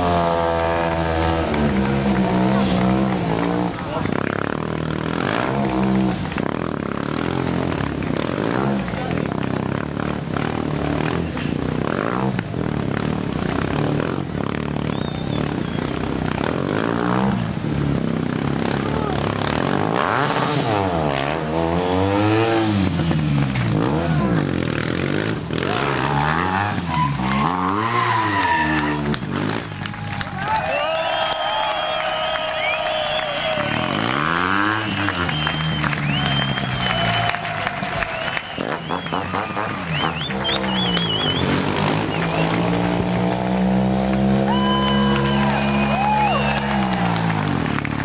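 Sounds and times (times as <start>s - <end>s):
motorcycle engine revving: 0.0s - 30.0s, 32.6s - 48.0s.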